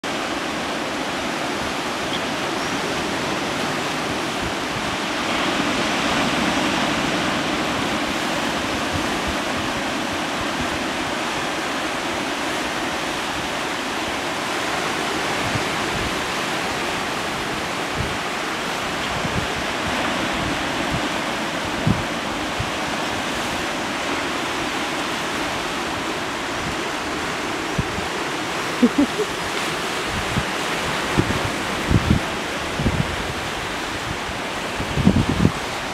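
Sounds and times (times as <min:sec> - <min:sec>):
surf washing over rocks: 0:00.0 - 0:35.9.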